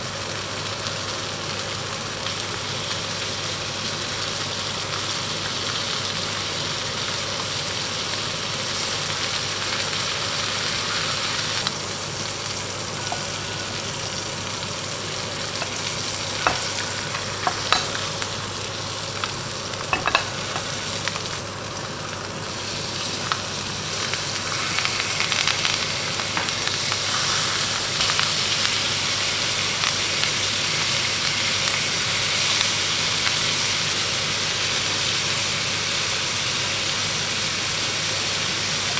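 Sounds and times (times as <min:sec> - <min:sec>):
meat sizzling in frying pan: 0:00.0 - 0:38.9.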